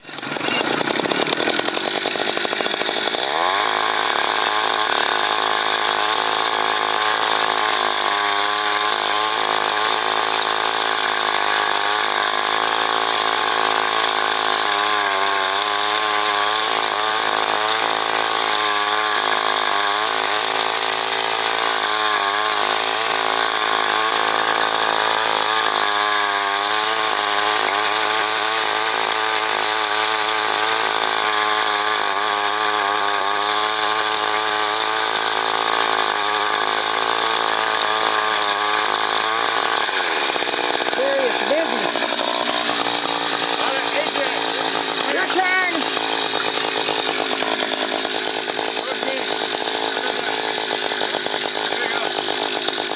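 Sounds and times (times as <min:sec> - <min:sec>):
post-hole auger engine running: 0:00.0 - 0:52.9.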